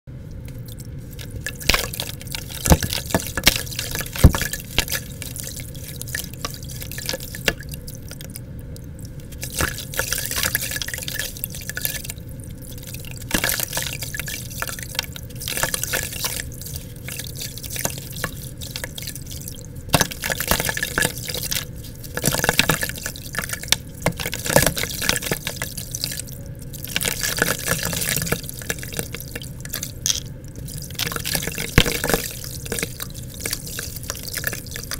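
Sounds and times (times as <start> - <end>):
wet dirt squeezed in water: 0.3 - 34.9.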